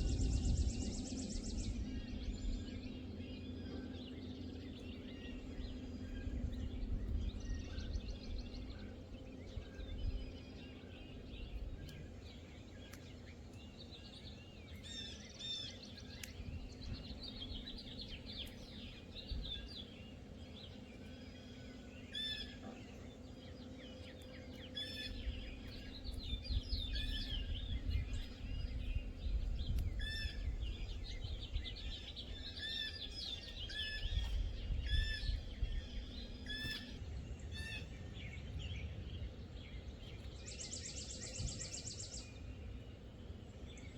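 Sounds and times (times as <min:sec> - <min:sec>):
low steady rumble: 0:00.0 - 0:43.9
songbirds chirping: 0:00.0 - 0:43.9.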